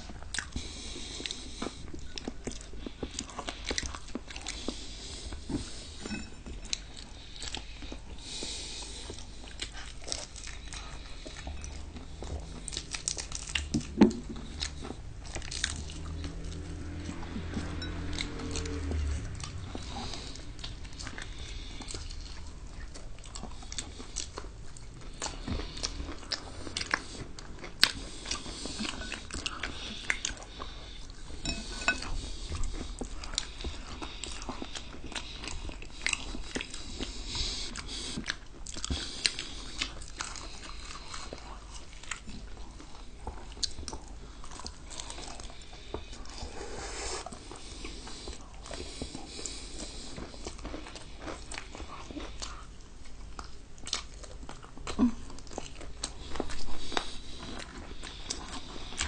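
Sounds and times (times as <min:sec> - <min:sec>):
people biting and chewing: 0:00.0 - 0:59.0.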